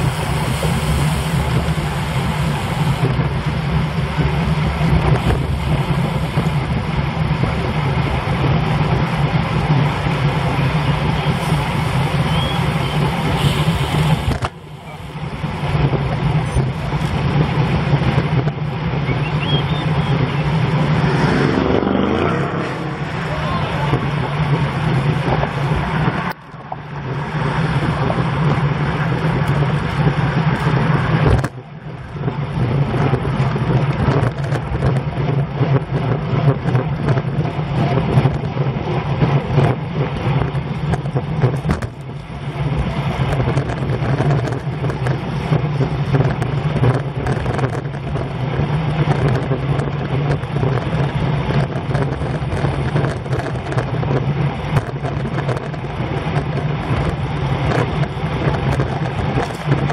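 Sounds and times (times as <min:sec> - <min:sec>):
tyre and road noise: 0:00.0 - 0:59.9
wind roaring over microphone: 0:00.0 - 0:59.9.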